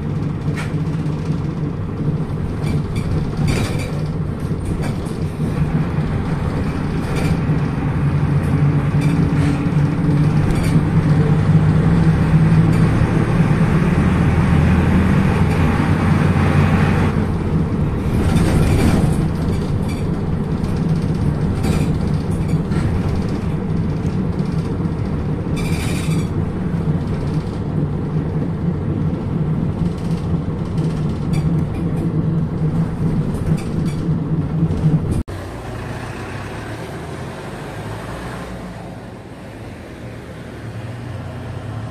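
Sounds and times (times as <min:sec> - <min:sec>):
bus diesel engine running: 0:00.0 - 0:41.9
road noise: 0:00.0 - 0:41.9.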